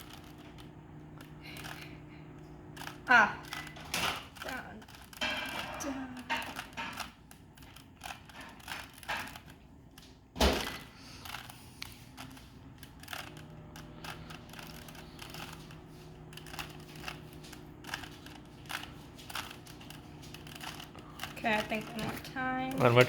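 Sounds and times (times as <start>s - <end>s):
puzzle cube clicking: 2.8s - 23.0s.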